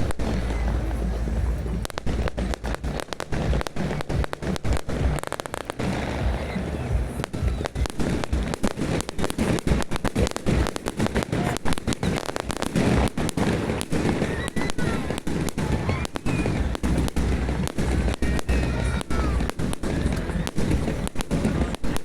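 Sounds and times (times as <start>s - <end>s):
fireworks cracks and bangs: 0.0s - 22.0s
low rumbling booms: 0.0s - 22.0s.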